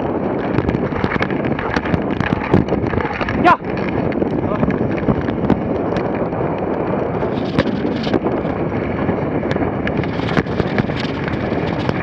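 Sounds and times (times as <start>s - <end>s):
sled knocks and rattles: 0.0s - 12.0s
wind on microphone: 0.0s - 12.0s.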